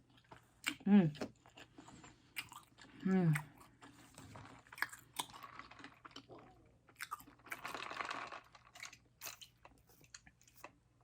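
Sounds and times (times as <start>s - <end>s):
close-miked chewing: 0.0s - 10.8s.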